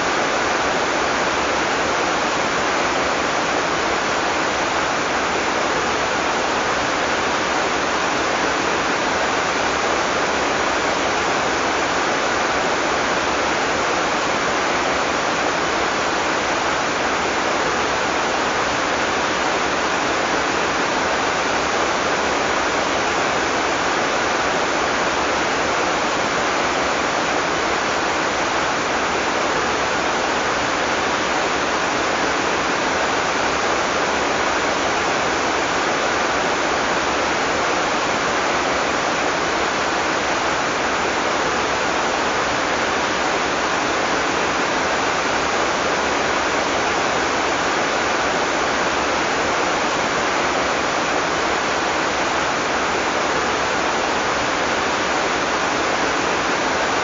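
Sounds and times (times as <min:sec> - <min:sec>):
heavy rain downpour: 0:00.0 - 0:57.0.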